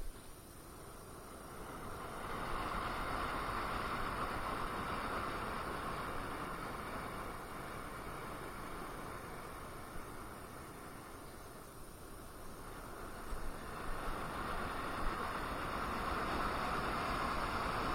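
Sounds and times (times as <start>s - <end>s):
rushing road and wind noise: 0.0s - 17.9s.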